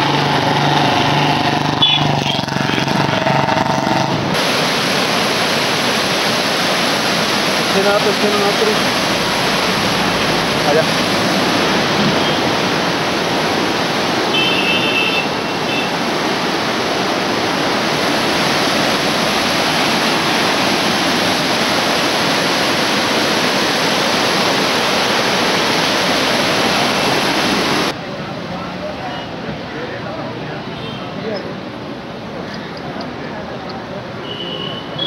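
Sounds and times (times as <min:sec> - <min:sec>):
floodwater rushing past bridge piers: 0:00.0 - 0:35.0.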